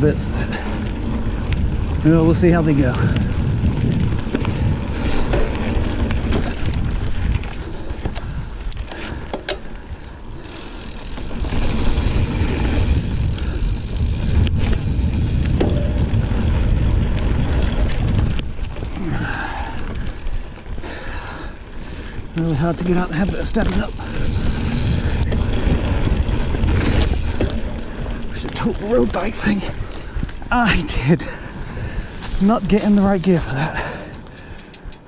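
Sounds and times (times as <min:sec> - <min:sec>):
bike tyres rolling on dirt: 0:00.0 - 0:35.0
wind buffeting microphone: 0:00.0 - 0:35.0
bike clicks and knocks: 0:00.5 - 0:21.6, 0:22.3 - 0:31.0, 0:32.2 - 0:35.0.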